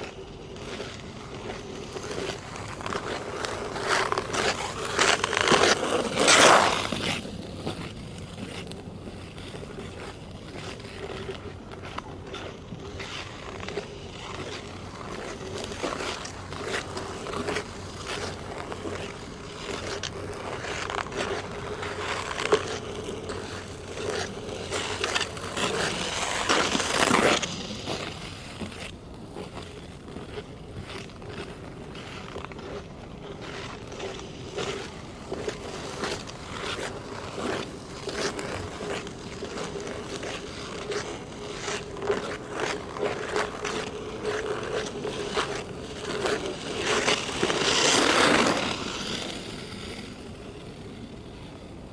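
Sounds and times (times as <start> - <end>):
ice skate blades scraping ice: 0.0 - 51.9.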